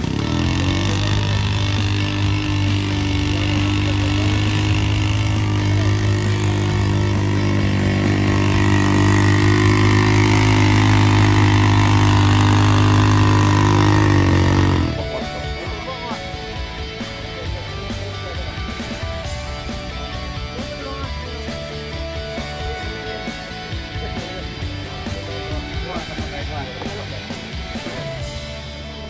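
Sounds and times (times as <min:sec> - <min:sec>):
quad bike engine running: 0:00.0 - 0:29.0.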